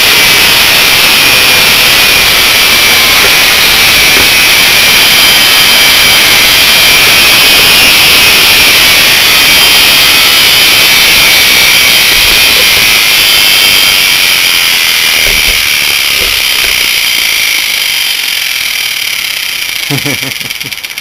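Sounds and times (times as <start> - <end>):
electric motor high-pitched whine: 0.0 - 21.0.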